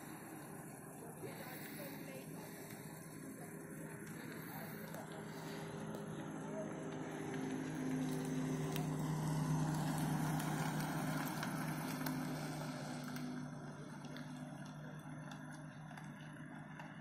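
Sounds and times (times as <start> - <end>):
van passing and driving away: 0.0 - 17.0.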